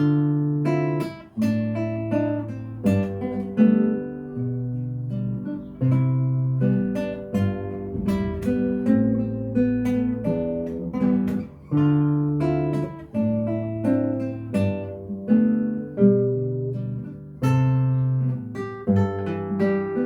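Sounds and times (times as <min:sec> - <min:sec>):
acoustic guitar plucking: 0:00.0 - 0:20.0.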